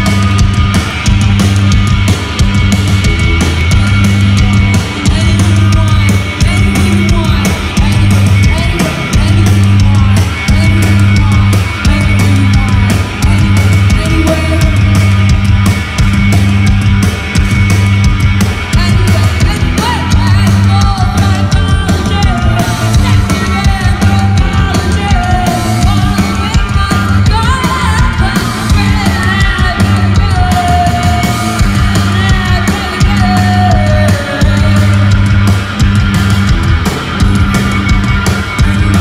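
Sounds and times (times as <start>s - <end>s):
live punk rock band: 0.0s - 39.0s.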